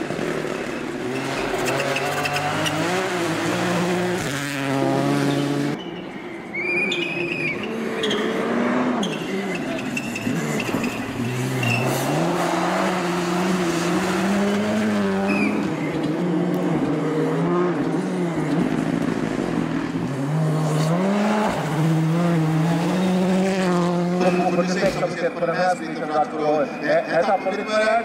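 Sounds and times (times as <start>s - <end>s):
rally car engine revving: 0.0s - 5.8s, 6.8s - 25.6s.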